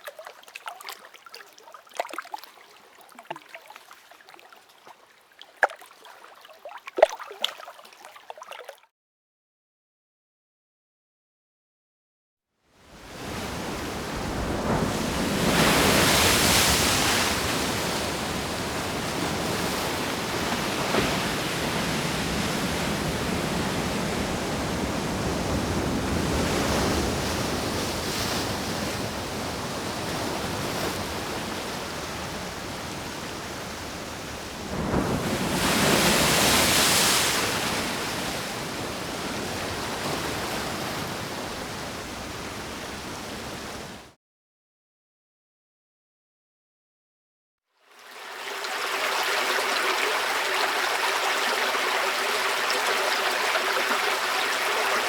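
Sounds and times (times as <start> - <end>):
ocean waves breaking on shore: 0.0 - 8.8, 12.9 - 44.2, 47.9 - 55.0.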